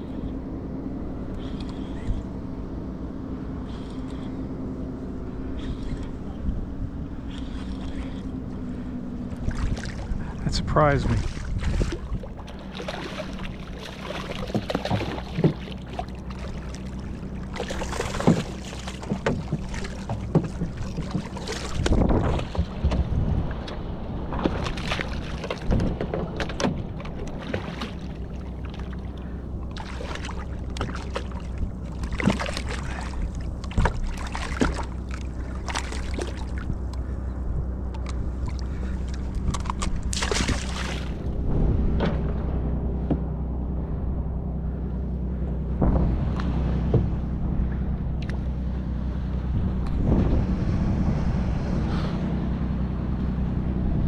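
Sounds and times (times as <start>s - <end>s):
outboard motor idling: 0.0s - 54.0s
water splashing on hull: 5.4s - 43.4s, 45.3s - 54.0s.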